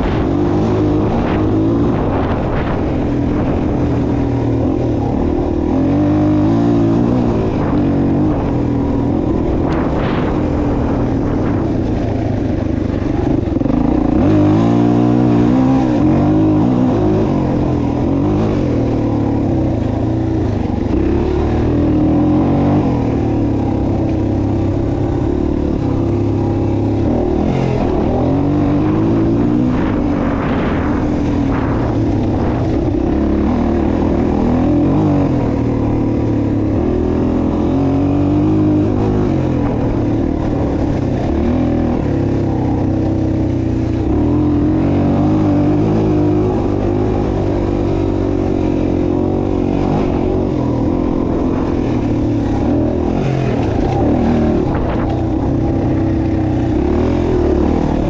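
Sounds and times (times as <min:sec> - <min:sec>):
vehicle engines revving: 0:00.0 - 0:58.0.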